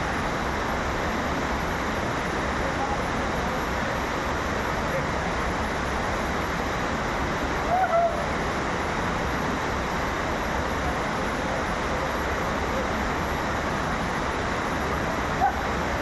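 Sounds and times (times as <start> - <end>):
waterfall and river water rushing: 0.0 - 16.0.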